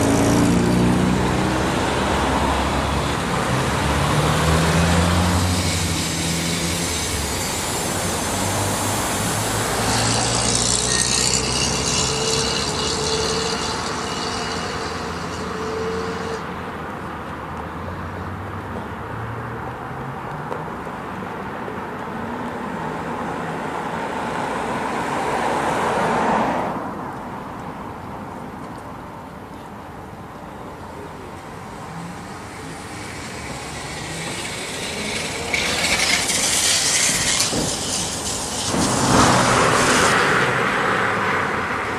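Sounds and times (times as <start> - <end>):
vehicles passing: 0.0 - 41.9.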